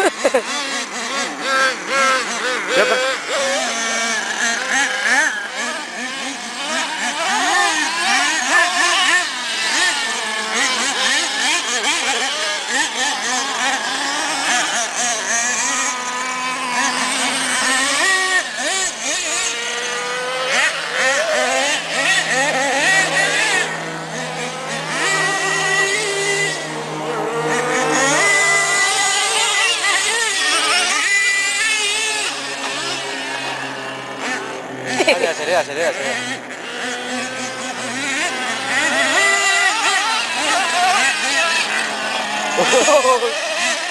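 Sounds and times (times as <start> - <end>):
small nitro engines revving: 0.0 - 43.9.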